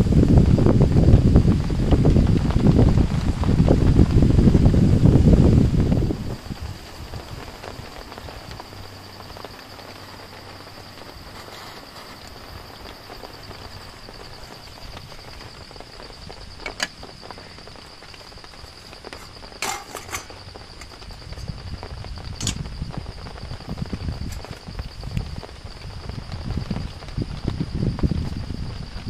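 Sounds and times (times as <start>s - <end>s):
rain: 0.0s - 29.0s.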